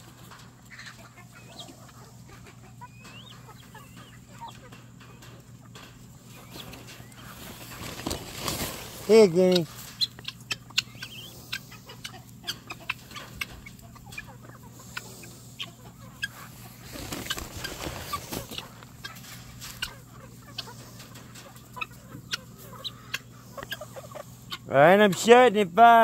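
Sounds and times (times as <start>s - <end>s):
chickens clucking softly: 0.0s - 25.4s.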